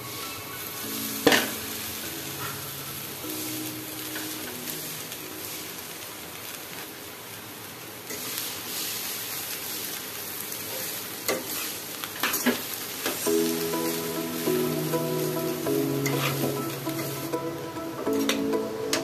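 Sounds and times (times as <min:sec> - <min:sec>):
rice sizzling in a pan: 0:00.0 - 0:19.0.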